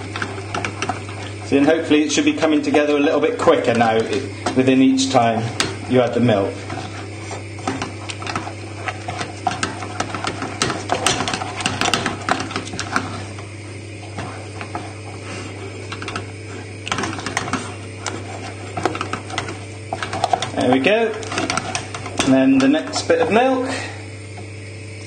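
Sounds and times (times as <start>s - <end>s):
utensil stirring and scraping saucepan: 0.0s - 23.9s.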